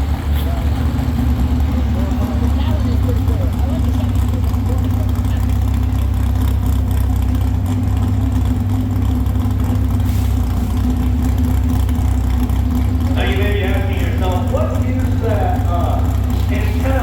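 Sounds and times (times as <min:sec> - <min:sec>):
loud engine droning: 0:00.0 - 0:17.0.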